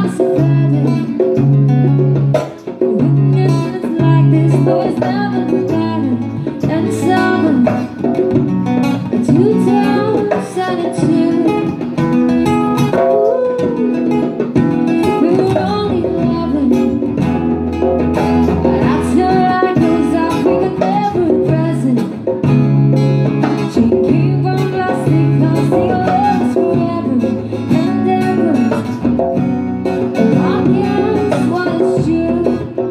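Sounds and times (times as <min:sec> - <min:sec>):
hand drum beats: 0:00.0 - 0:32.9
strummed acoustic guitar: 0:00.0 - 0:32.9
woman singing: 0:00.0 - 0:32.9.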